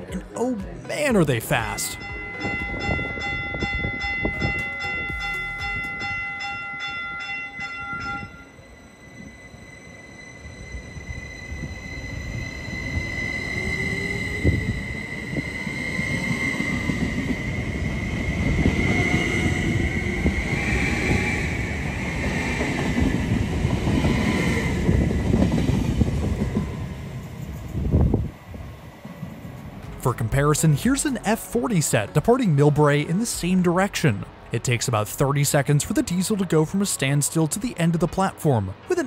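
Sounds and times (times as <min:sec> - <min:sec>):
electric train high whine: 0:00.8 - 0:39.0.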